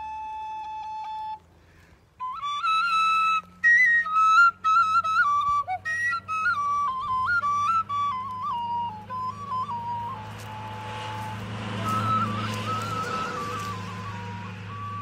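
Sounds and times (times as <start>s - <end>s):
wooden flute melody: 0.0s - 15.0s.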